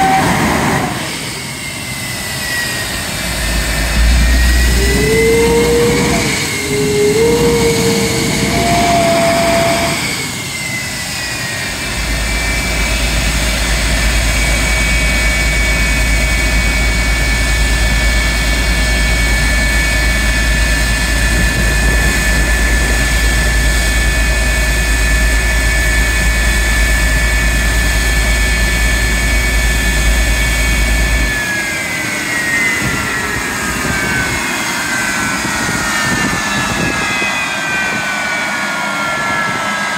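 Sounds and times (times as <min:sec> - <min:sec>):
jet engine high-pitched whine: 0:00.0 - 0:39.9.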